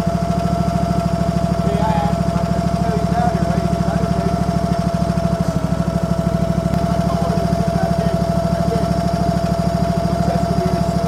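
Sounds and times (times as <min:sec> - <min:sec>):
small engine running: 0:00.0 - 0:11.0
steady whine: 0:00.0 - 0:11.0.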